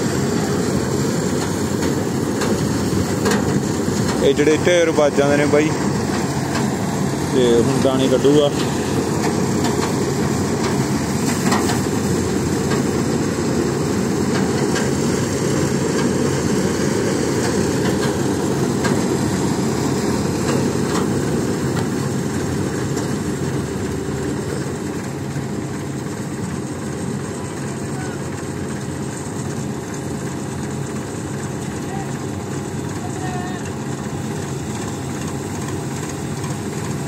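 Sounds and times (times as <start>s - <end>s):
combine harvester running: 0.0s - 37.0s
grain discharging from auger: 0.0s - 37.0s.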